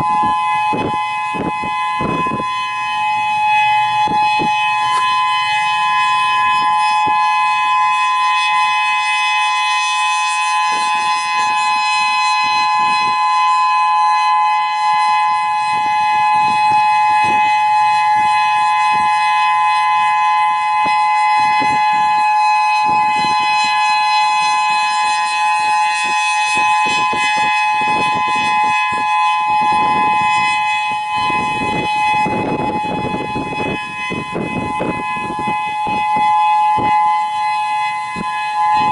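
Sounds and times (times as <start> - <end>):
two-tone electronic siren: 0.0 - 38.9
wind buffeting microphone: 0.0 - 38.9.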